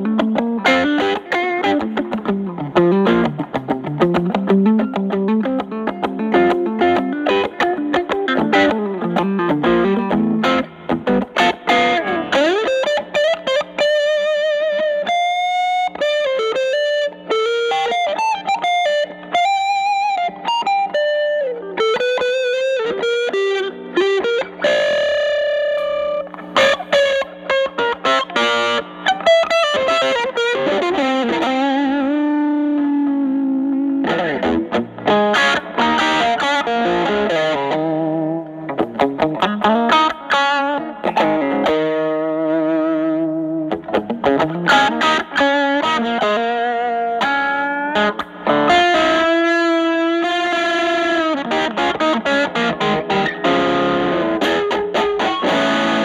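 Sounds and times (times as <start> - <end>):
electric guitar lead lines: 0.0 - 56.0
guitar chord stabs: 0.0 - 56.0.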